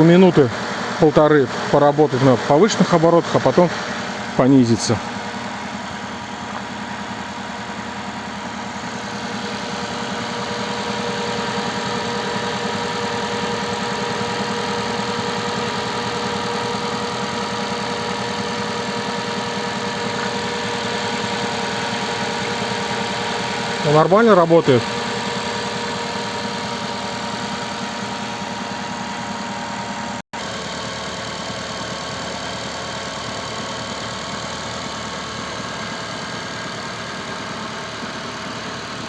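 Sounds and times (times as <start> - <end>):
car engine fast idle: 0.0 - 39.0.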